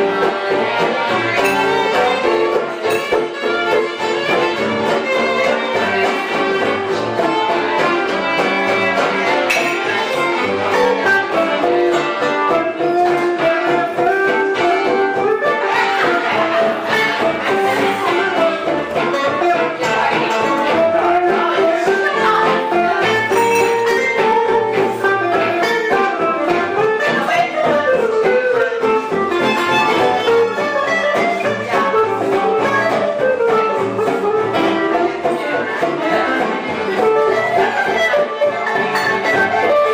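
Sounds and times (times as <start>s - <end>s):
guitar: 0.0s - 39.9s
live band music: 0.0s - 39.9s
violin melody: 0.0s - 39.9s.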